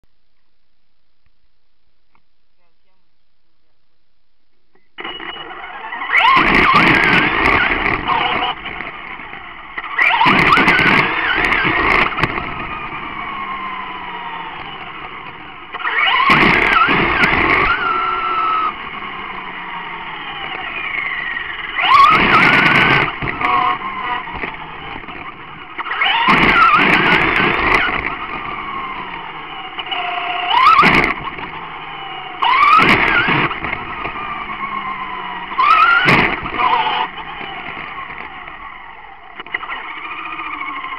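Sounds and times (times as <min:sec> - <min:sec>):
electric motor whining: 0:05.0 - 0:40.9
tyre and road noise: 0:05.0 - 0:40.9.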